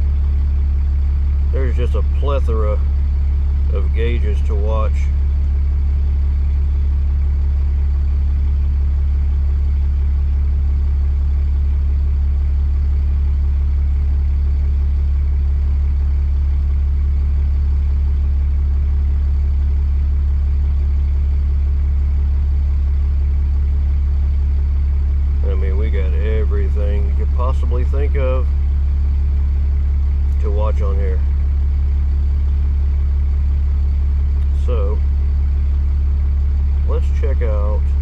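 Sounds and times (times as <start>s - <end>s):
diesel engine idling: 0.0s - 38.0s.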